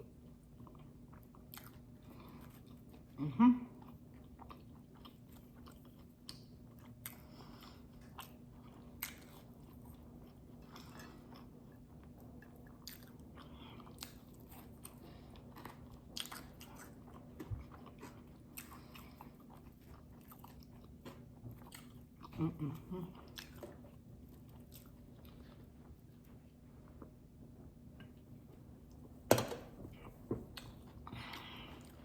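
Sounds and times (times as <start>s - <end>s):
person chewing food: 0.0s - 29.2s, 29.8s - 32.0s
faint steady hum: 0.0s - 32.0s.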